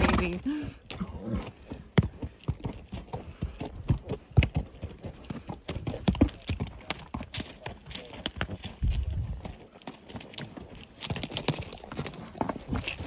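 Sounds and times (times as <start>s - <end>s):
horse hooves on dirt trail: 0.0s - 13.0s.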